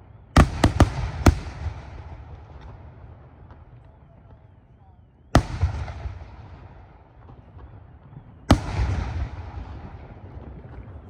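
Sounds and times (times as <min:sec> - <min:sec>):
firework bangs with echo: 0:00.4 - 0:04.4, 0:05.4 - 0:11.0.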